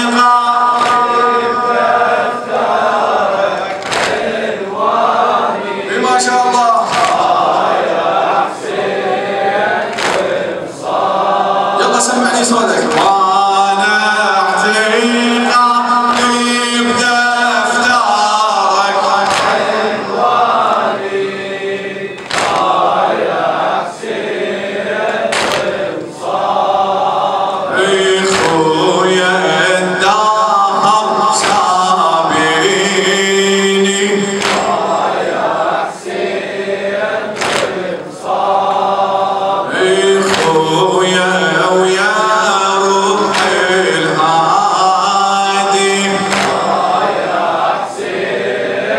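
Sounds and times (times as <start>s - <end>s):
man chanting into microphone: 0.0s - 3.8s, 5.4s - 9.0s, 10.7s - 21.6s, 26.0s - 48.4s.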